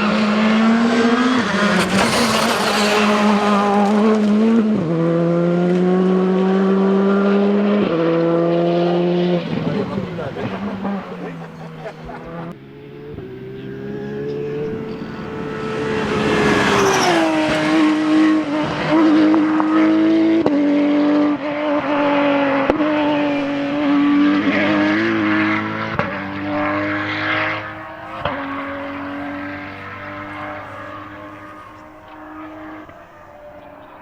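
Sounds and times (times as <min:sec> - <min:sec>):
rally car engine at high revs: 0:00.0 - 0:34.0.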